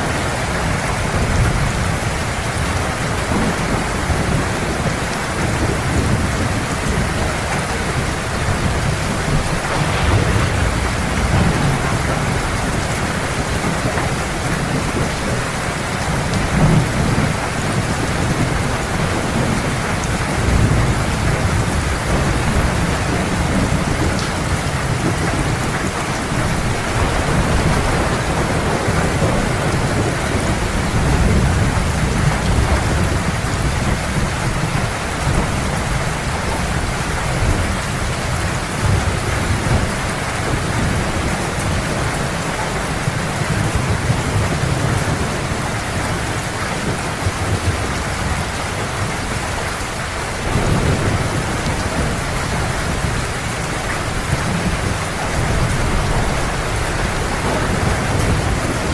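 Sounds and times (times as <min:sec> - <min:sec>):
heavy rain falling: 0:00.0 - 0:58.9
low thunder rumbling: 0:00.1 - 0:58.9.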